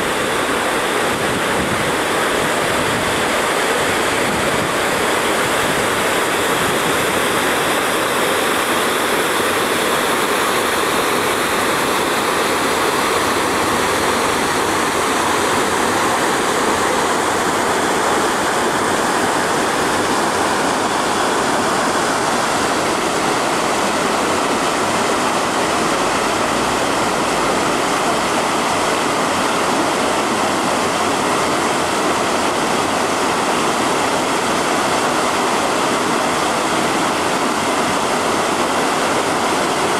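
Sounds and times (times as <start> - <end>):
water flowing down a canal: 0.0 - 39.9.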